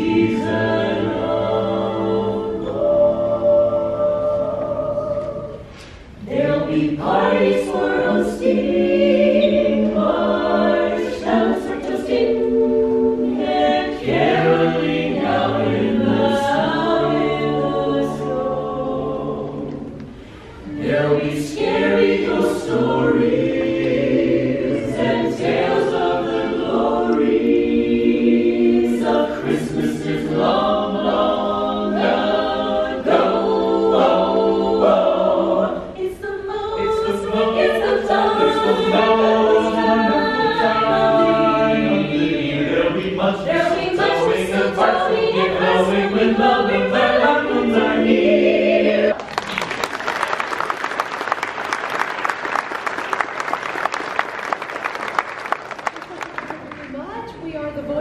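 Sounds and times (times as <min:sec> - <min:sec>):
choir singing in harmony: 0:00.0 - 0:49.2.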